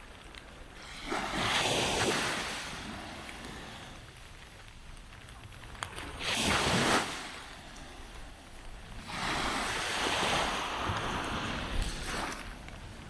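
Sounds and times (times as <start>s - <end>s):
small waves washing on beach: 0.0s - 13.0s.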